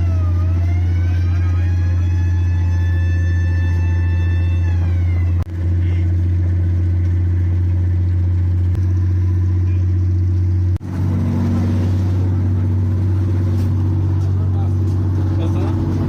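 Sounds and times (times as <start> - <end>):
boat diesel engine droning: 0.0 - 16.0.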